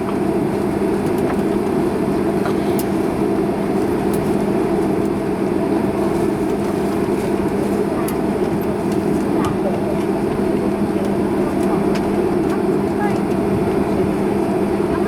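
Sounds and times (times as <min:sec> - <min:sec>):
cabin air-conditioning rush: 0:00.0 - 0:15.0.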